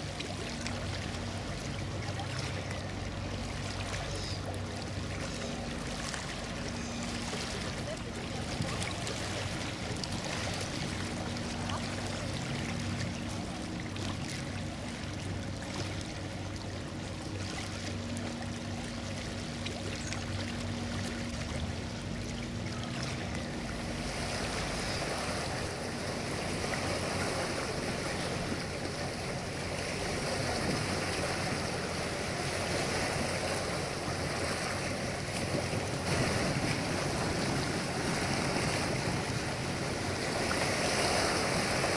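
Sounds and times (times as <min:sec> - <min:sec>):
churning water: 0:00.0 - 0:41.9
lake waves: 0:00.0 - 0:41.9
ship diesel engines humming: 0:00.0 - 0:41.9.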